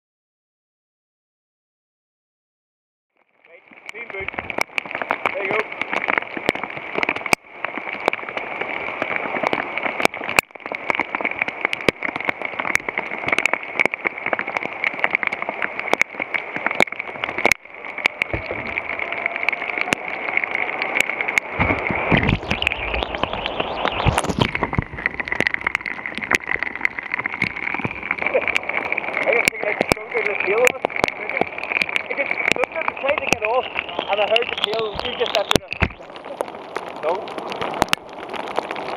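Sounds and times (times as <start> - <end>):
raindrops striking the camera: 3.2 - 38.9
heavy rain on a river: 3.4 - 38.9
white water rushing and splashing: 3.6 - 38.9.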